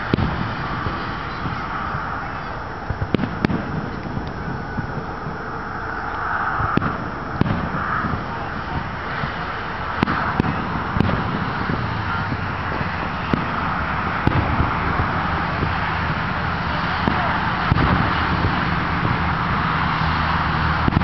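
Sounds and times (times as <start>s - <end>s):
background rumble: 0.0s - 21.0s
firework shells bursting: 0.0s - 21.0s.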